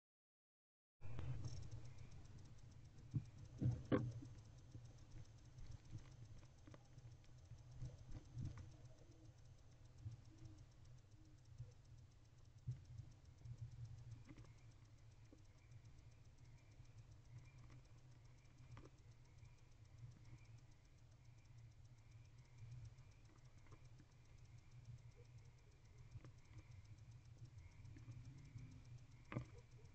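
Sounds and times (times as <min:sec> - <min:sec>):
low steady hum: 0:01.0 - 0:29.9.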